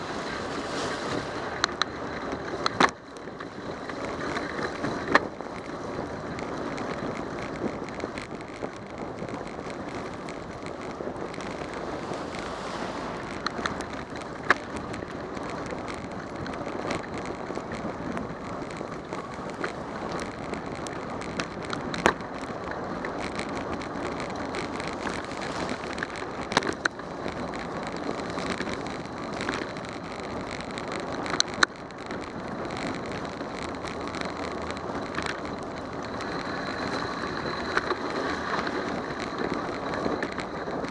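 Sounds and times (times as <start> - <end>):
tyres on wet pavement: 0.0 - 40.9
wind on microphone: 0.0 - 40.9.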